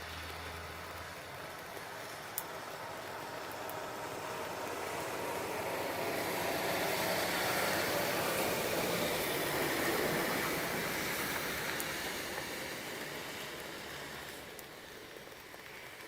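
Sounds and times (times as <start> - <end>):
steady rain: 0.0 - 16.0
tyre hiss on wet road: 0.0 - 16.0.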